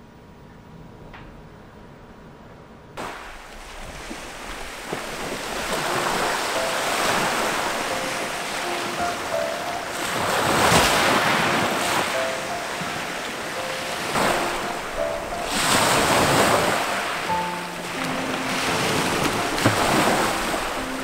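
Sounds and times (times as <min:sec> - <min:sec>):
sea waves breaking on shore: 0:03.0 - 0:21.0
soft piano notes: 0:03.9 - 0:21.0.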